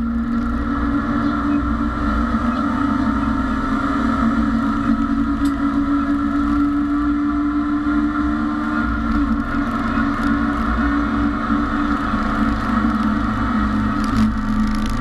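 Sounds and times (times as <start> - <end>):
race car engine at high revs: 0.0 - 15.0
road and tyre noise: 0.0 - 15.0.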